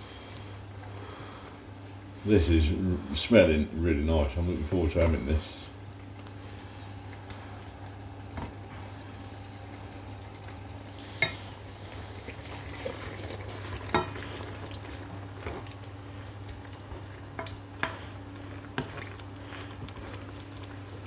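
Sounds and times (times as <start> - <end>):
sauce simmering: 0.0 - 21.0
steady low hum: 0.0 - 21.0.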